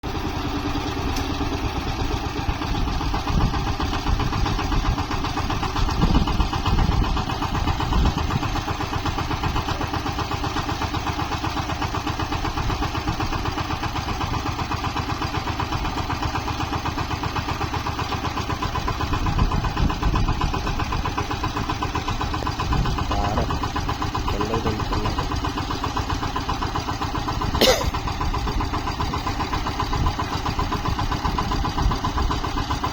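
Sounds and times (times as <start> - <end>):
small tractor engine running: 0.0 - 32.9.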